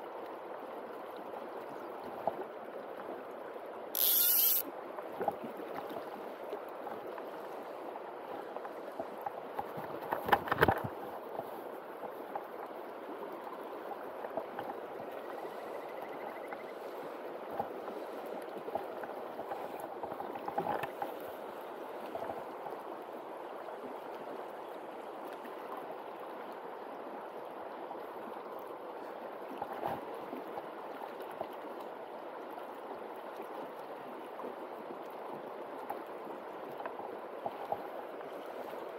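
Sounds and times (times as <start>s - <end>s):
rippling river current: 0.0s - 38.9s.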